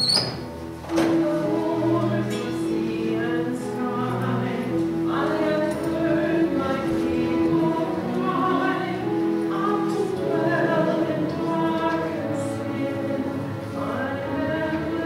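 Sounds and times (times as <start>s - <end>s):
hymn singing: 0.0s - 15.0s
sustained accompaniment: 0.3s - 15.0s.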